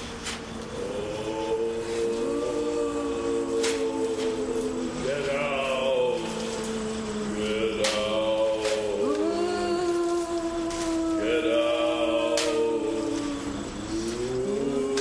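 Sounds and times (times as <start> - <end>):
eerie wordless voices moaning: 0.0 - 15.0.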